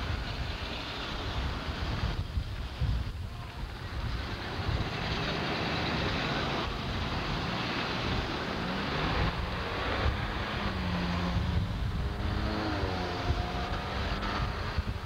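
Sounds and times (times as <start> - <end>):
tyres hissing on wet road: 0.0 - 15.0
wind rumble on microphone: 0.0 - 15.0.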